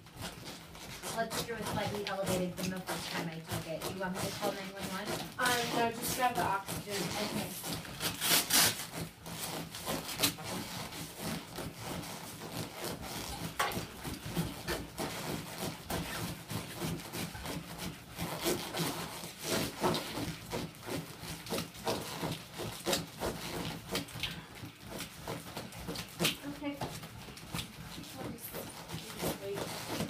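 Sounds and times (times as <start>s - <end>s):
rubbing and rasping sounds: 0.0s - 30.0s.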